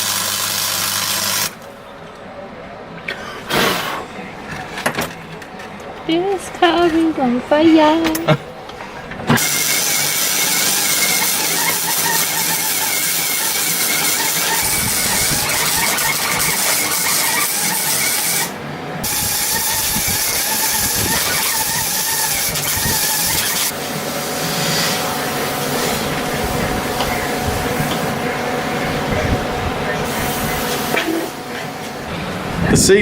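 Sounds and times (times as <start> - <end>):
harsh metal grinding: 6.2 - 32.8.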